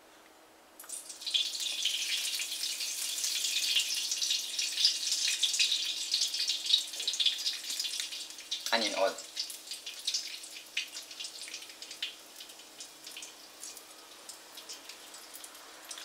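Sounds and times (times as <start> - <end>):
oil sizzling in a wok: 0.8 - 16.0.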